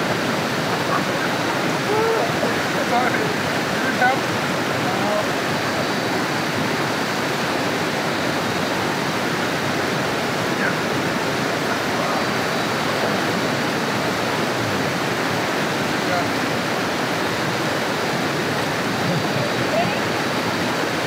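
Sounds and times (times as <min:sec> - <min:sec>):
water cascading over rocks: 0:00.0 - 0:21.0.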